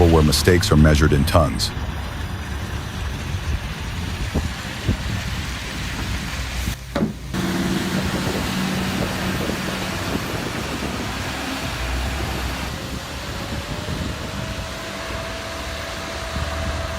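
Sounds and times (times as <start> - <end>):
heavy machinery rumbling: 0.0 - 16.9.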